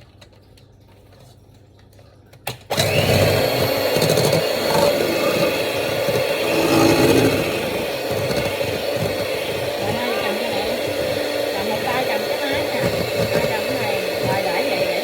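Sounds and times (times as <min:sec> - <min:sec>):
electric hand mixer running: 0:02.7 - 0:15.0.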